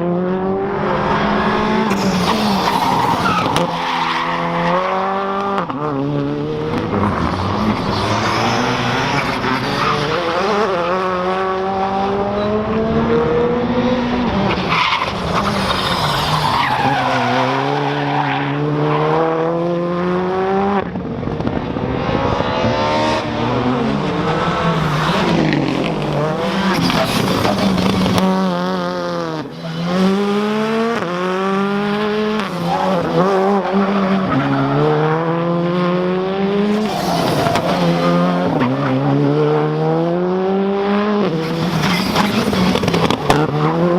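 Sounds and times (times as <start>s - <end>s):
rally car engine revving: 0.0s - 43.9s.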